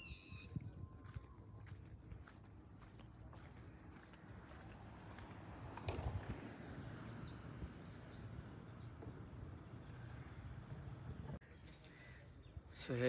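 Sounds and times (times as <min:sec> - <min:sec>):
wind rumble on microphone: 0:00.0 - 0:11.4.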